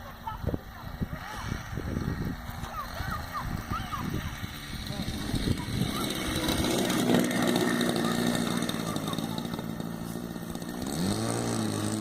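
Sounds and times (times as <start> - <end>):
small engine running and revving: 0.6 - 12.0.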